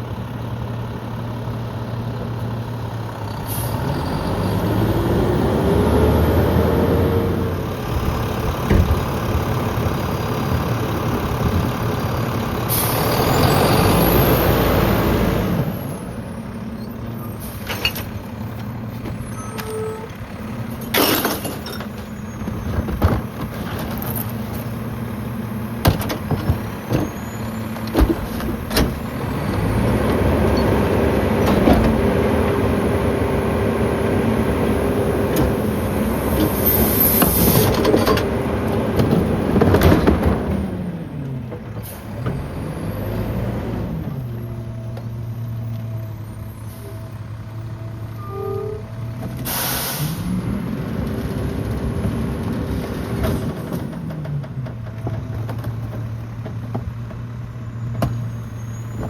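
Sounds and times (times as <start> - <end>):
garbage truck engine revving: 3.0 - 48.2, 48.8 - 56.5.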